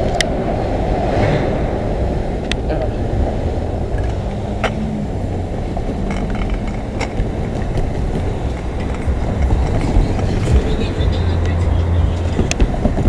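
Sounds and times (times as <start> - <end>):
cars passing over crossing: 0.0 - 13.0.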